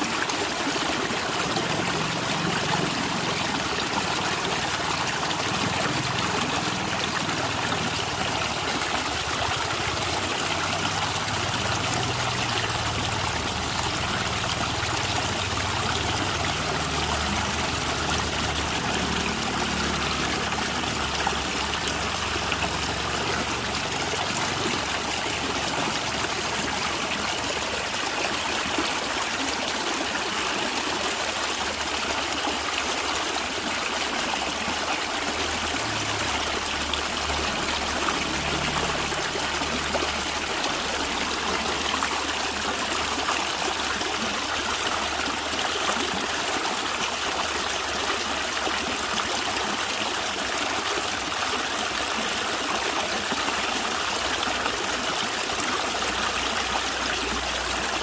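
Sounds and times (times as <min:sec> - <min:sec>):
running water gurgling: 0:00.0 - 0:58.0.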